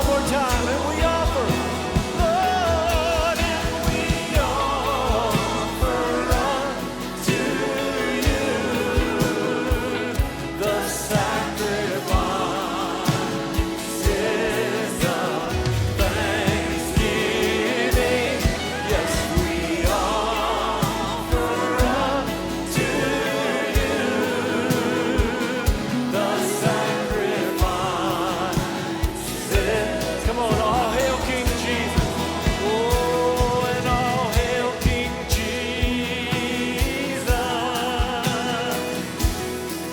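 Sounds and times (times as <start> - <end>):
band playing: 0.0 - 39.9
drum beat: 0.0 - 39.9
people singing worship song: 0.0 - 39.9.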